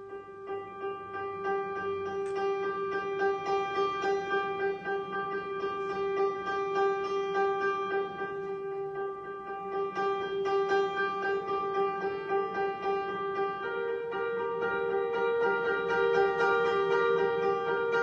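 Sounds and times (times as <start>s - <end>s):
piano note struck repeatedly: 0.0s - 18.0s.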